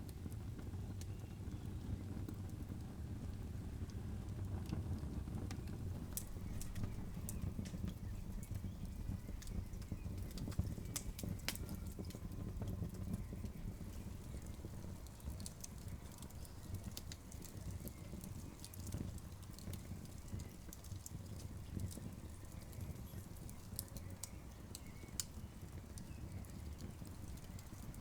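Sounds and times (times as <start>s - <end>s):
campfire popping and snapping: 0.0s - 28.0s
low rumble of burning fire: 0.0s - 28.0s.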